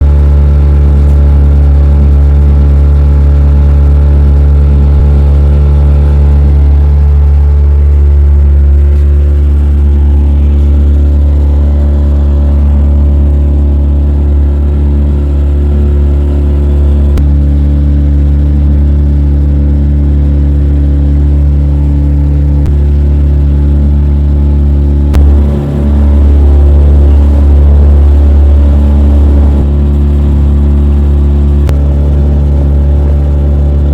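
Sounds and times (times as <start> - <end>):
engine droning steadily: 0.0 - 33.9.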